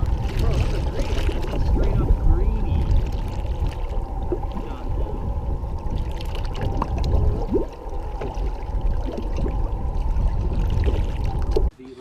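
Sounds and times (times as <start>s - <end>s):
wind and water rumble: 0.0s - 11.8s.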